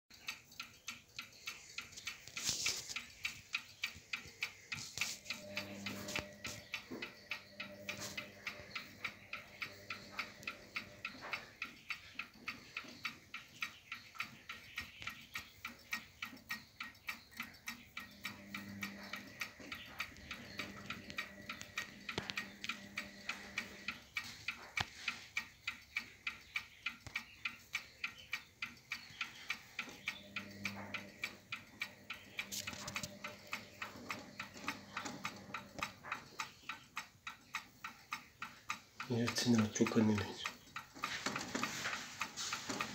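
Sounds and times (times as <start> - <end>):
clock ticking: 0.1 - 42.9.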